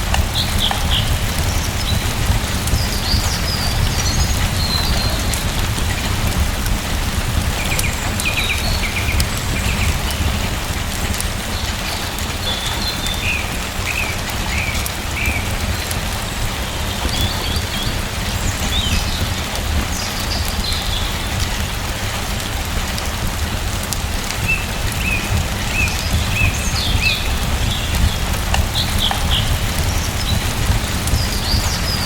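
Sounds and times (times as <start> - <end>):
rain falling: 0.0 - 32.0.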